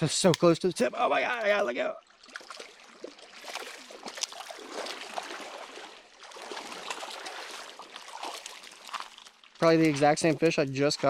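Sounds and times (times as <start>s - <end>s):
creek water gurgling: 0.9s - 11.0s
small water splashes: 1.4s - 11.0s.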